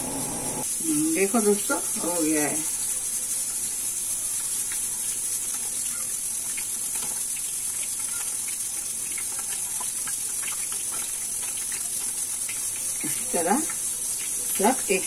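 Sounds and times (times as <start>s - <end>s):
food deep-frying in hot oil: 0.2s - 15.0s.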